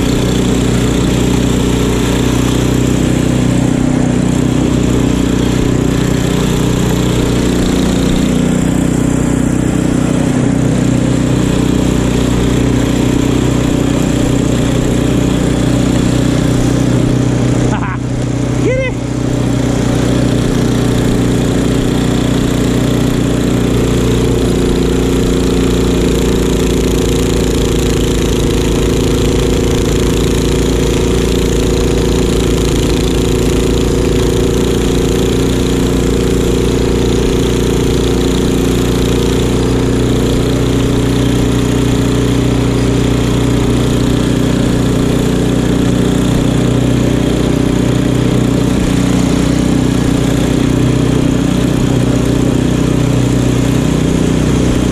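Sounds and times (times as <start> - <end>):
snow blower engine running: 0.0 - 54.9.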